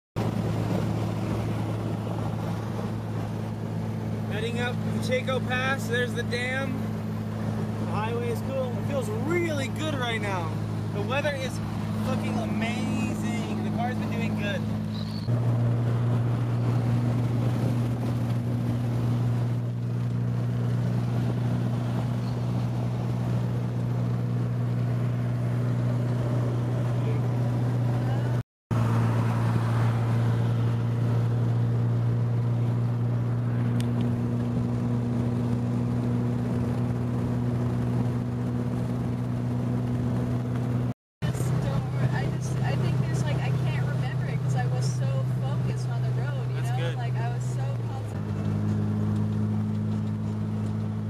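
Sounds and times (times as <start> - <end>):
car engine droning: 0.2 - 51.0
road noise: 0.2 - 51.0.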